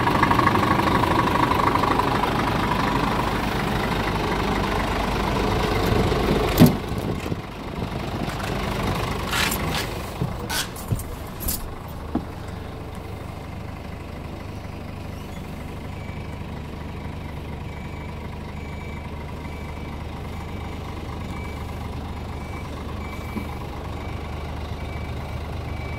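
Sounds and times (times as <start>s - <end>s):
diesel truck engine idling: 0.0s - 25.9s.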